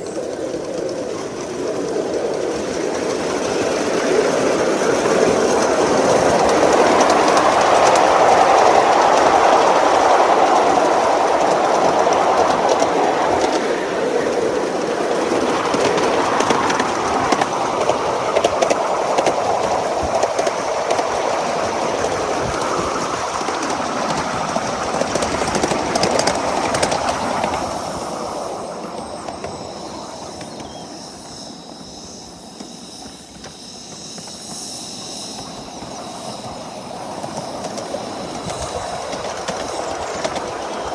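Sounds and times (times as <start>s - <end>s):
miniature train rumbling on rails: 0.0s - 40.9s.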